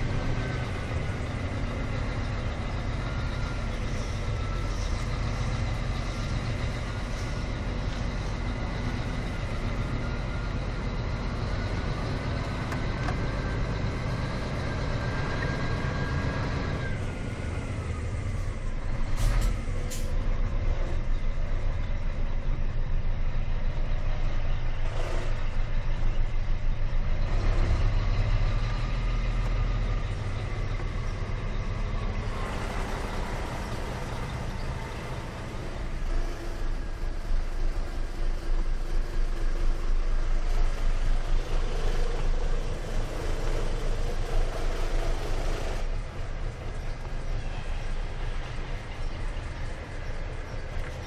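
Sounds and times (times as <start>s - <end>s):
truck diesel engine rumbling: 0.0s - 51.0s.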